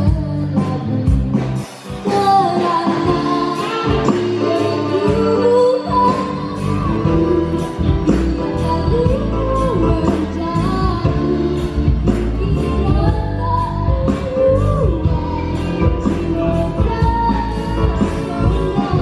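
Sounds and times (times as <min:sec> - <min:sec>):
live band with drum beat: 0:00.0 - 0:19.0
woman singing into microphone: 0:00.0 - 0:19.0.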